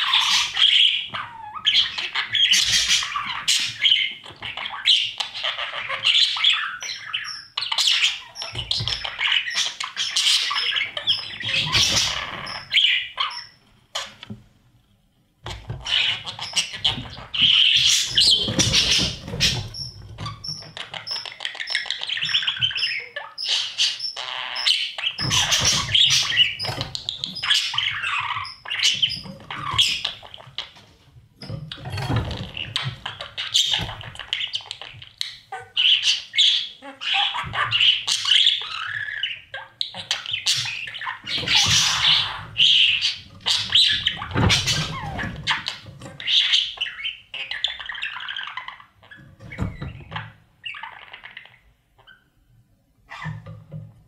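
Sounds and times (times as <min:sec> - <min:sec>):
budgerigars chirping and chattering: 0:00.0 - 0:14.4, 0:15.4 - 0:52.4, 0:53.0 - 0:53.8.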